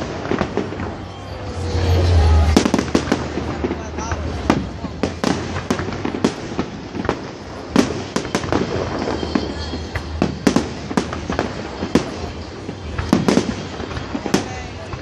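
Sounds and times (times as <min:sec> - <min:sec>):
fireworks crackling and rumble: 0:00.0 - 0:15.0.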